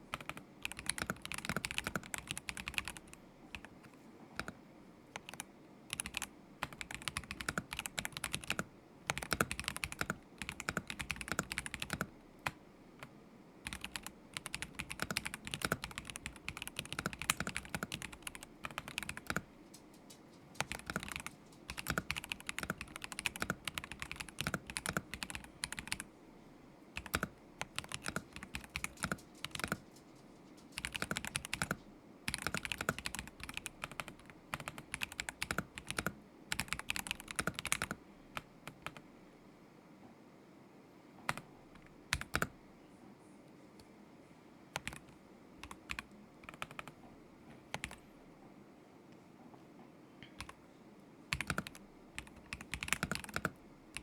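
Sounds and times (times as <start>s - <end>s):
mechanical keyboard typing: 0.1s - 3.7s, 4.4s - 26.1s, 27.0s - 30.0s, 30.6s - 39.0s, 41.3s - 42.5s, 44.8s - 47.0s, 47.7s - 48.0s, 50.4s - 50.6s, 51.3s - 54.0s.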